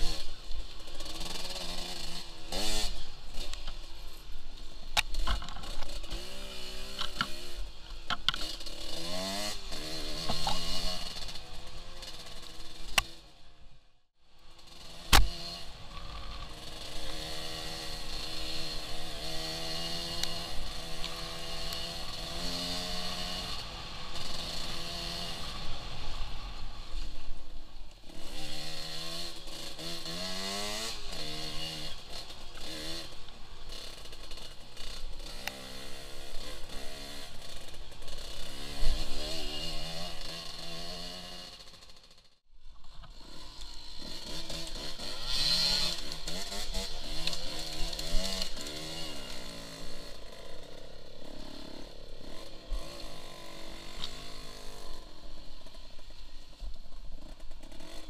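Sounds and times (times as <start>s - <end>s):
dirt bike engine revving: 0.0s - 3.8s, 5.1s - 13.6s, 14.4s - 42.3s, 43.1s - 58.0s.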